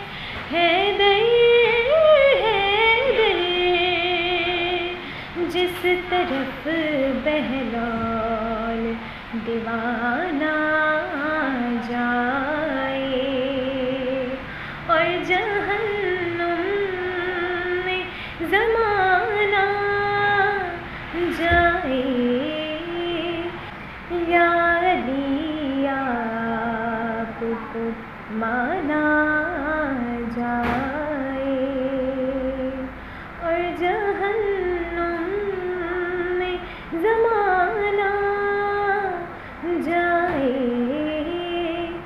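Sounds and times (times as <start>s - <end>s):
woman singing unaccompanied: 0.0s - 42.0s.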